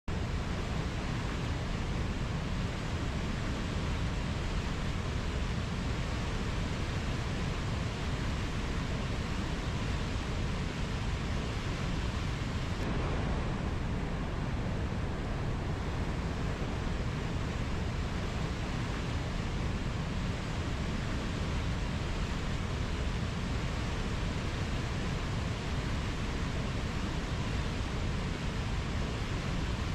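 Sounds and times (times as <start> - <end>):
waterfall roaring: 0.1 - 29.9.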